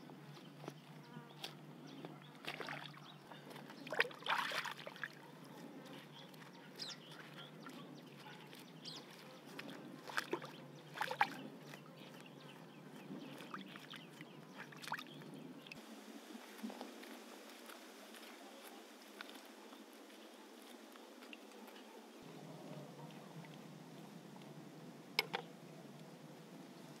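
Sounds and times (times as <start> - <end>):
water splashing and sloshing: 0.3 - 23.7.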